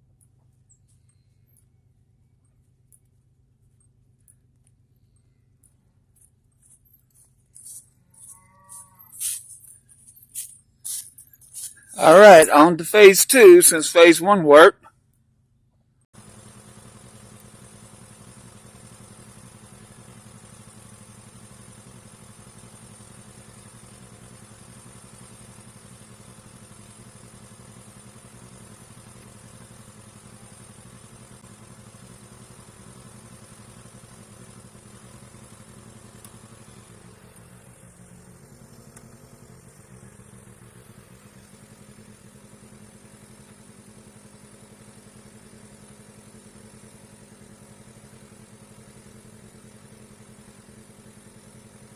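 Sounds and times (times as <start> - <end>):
low engine hum: 0.0 - 51.9.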